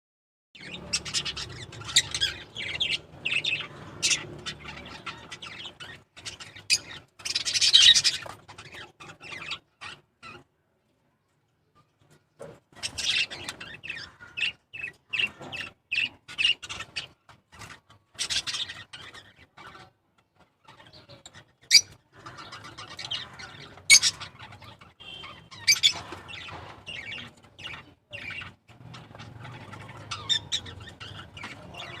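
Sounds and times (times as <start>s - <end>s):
small parrots chirping: 0.6s - 10.5s, 12.8s - 19.9s, 20.6s - 32.0s.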